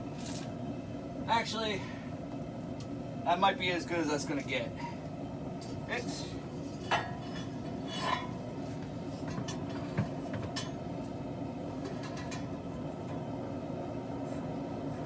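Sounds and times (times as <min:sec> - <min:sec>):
forge humming: 0:00.0 - 0:15.0.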